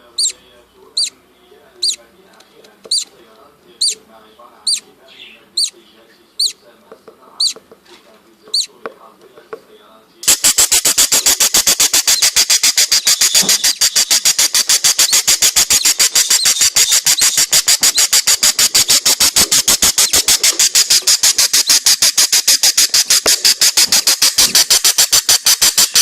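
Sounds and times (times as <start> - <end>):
budgie chick cheeping: 0.0 - 1.2, 1.8 - 2.1, 2.8 - 3.2, 3.8 - 6.7, 7.3 - 7.8, 8.4 - 8.9, 10.2 - 26.0.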